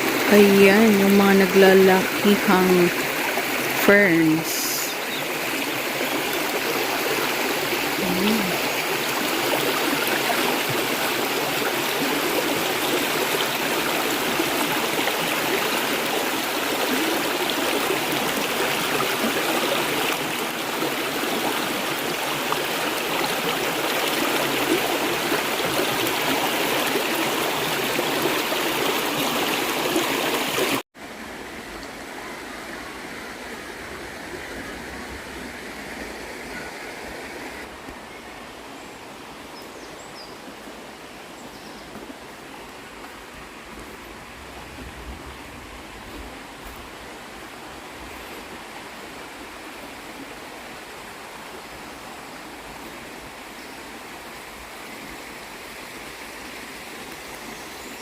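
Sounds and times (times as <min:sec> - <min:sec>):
river water gushing: 0:00.0 - 0:58.0.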